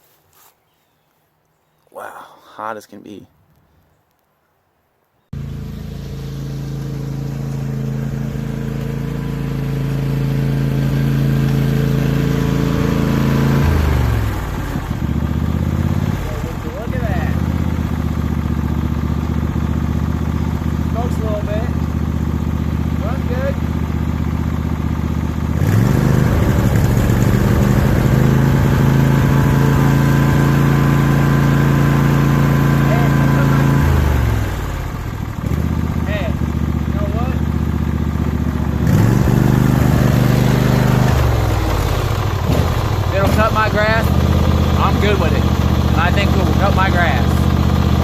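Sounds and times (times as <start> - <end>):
lawn tractor engine running: 5.4 - 48.0.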